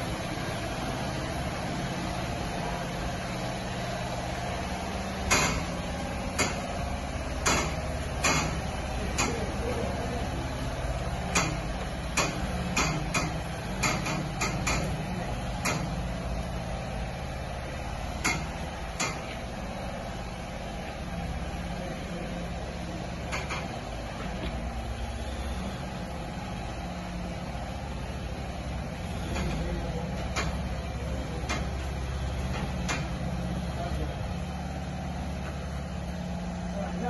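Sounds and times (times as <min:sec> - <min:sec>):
heavy vehicle engine running: 0:00.0 - 0:37.0.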